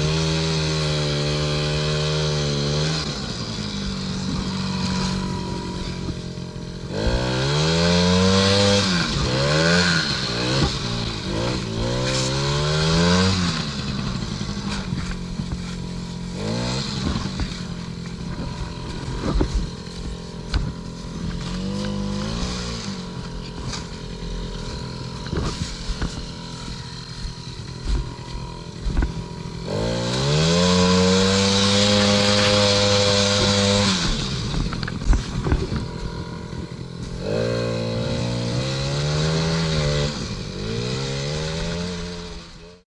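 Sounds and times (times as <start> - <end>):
small two-stroke engine revving: 0.0 - 42.8.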